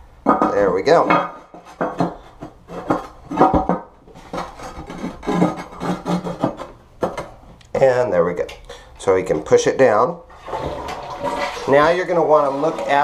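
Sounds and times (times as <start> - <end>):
scraping and knocking of toilet parts: 0.0 - 8.0, 10.3 - 13.0.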